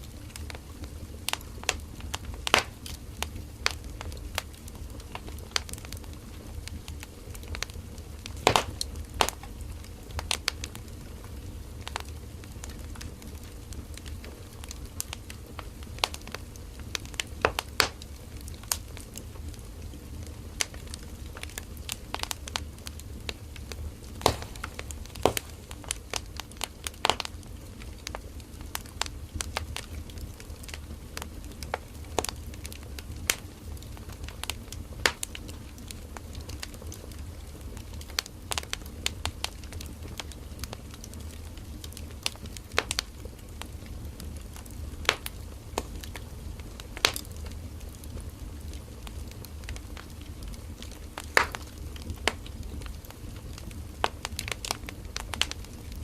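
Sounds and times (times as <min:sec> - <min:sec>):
campfire crackling and popping: 0:00.0 - 0:56.0
flames rumbling: 0:00.0 - 0:56.0.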